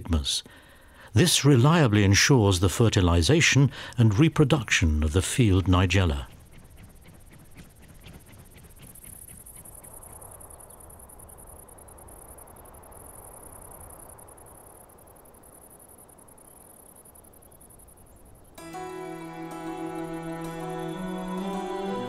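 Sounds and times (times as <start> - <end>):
crickets chirring: 0.0 - 22.0
soft field ambience hiss: 0.0 - 22.0.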